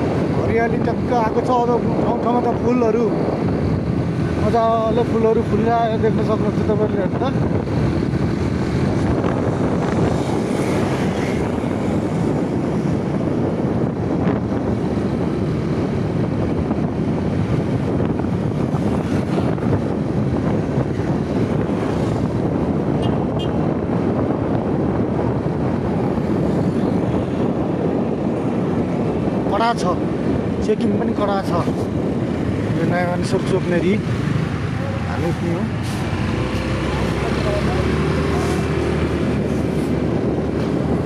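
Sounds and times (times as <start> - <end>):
wind rush on microphone: 0.0 - 41.0.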